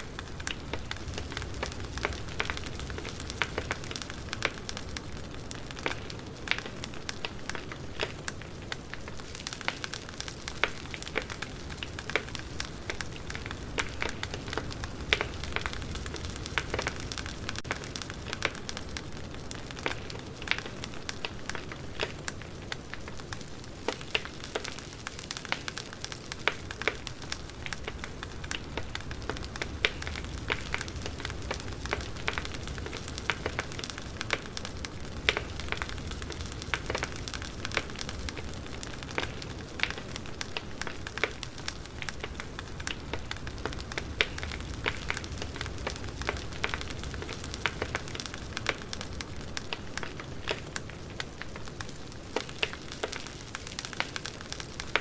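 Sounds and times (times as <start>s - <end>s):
campfire flames hissing: 0.0s - 55.0s
fire crackling and popping: 0.0s - 55.0s.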